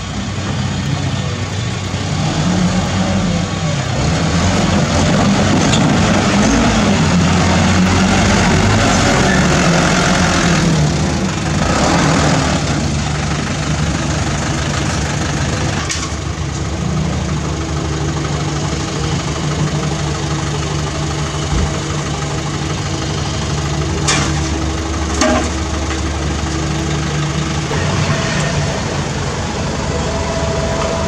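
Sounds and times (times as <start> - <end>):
dump truck diesel engine: 0.0 - 31.0
mini excavator working: 0.0 - 31.0.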